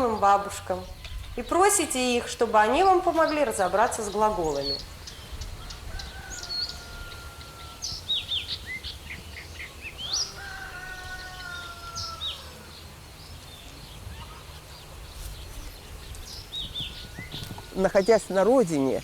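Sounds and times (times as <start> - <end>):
birds chirping: 0.0 - 19.0
drawn-out bird calls: 0.0 - 19.0.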